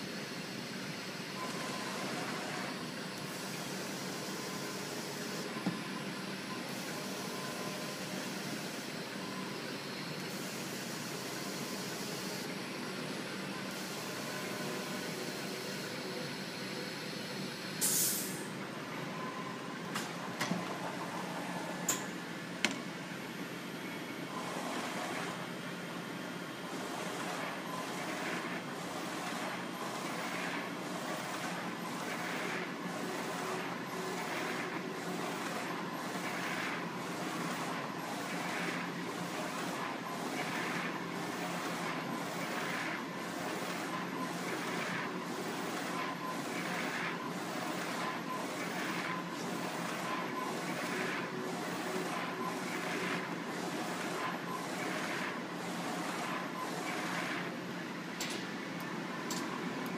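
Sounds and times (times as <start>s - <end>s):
inkjet printer whirring: 0.4s - 17.7s, 18.5s - 59.9s.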